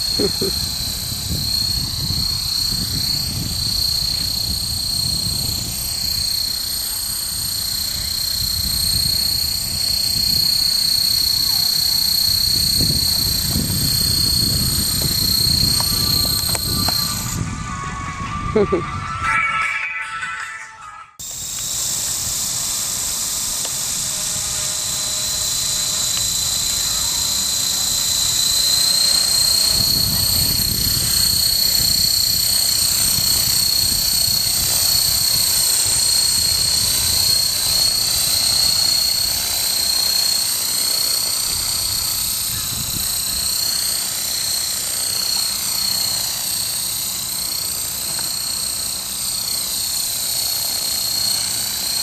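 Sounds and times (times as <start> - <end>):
rotor whirring: 0.0 - 19.1, 21.2 - 52.0
rc helicopter motor whine: 0.0 - 52.0.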